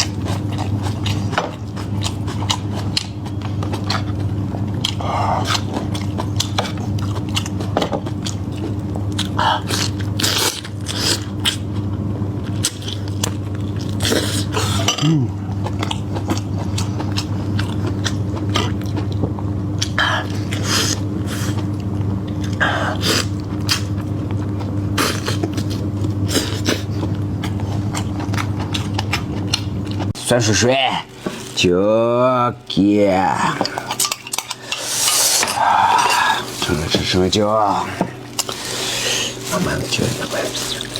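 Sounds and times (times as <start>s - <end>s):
chewing meaty food: 0.0s - 31.7s, 32.6s - 40.9s
steady low hum: 0.0s - 40.9s.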